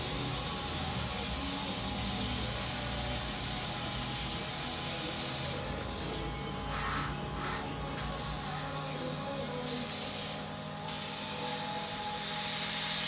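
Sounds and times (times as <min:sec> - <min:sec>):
spray gun hissing: 0:00.0 - 0:06.1, 0:06.7 - 0:13.0.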